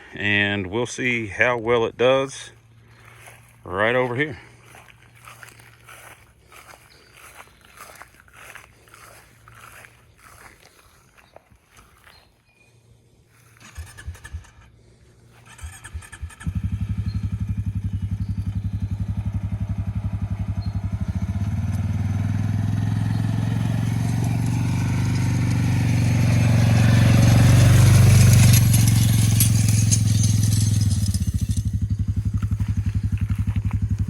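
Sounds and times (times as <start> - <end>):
atv engine starting and running: 0.0 - 34.0.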